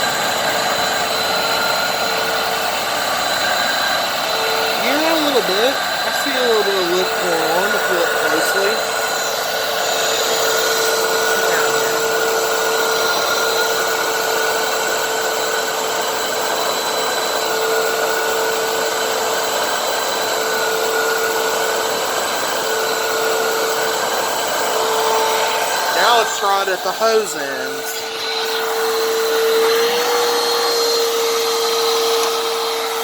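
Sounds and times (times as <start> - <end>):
vacuum cleaner on carpet: 0.0 - 33.0.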